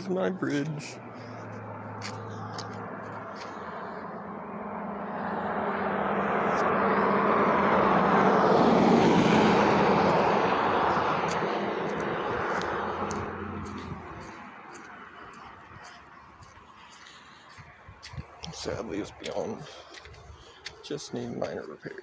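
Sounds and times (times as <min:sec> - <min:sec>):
vehicle passing: 0:00.0 - 0:22.0.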